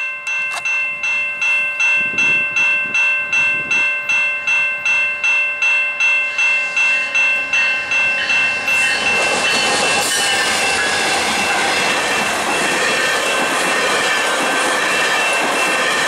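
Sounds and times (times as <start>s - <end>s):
level crossing bell ringing: 0.0s - 16.0s
approaching train: 0.3s - 16.0s.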